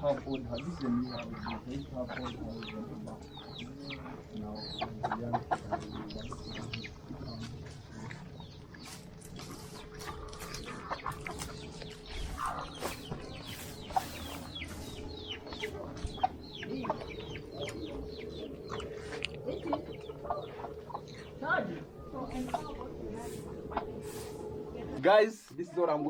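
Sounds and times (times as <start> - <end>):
chickens clucking: 0.0 - 25.2
faint steady hum: 0.1 - 25.6.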